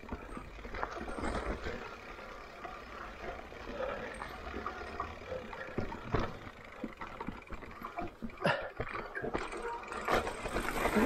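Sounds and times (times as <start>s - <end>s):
bike knocking and rattling: 0.0s - 11.0s
bike tyre noise on dirt: 0.0s - 11.0s.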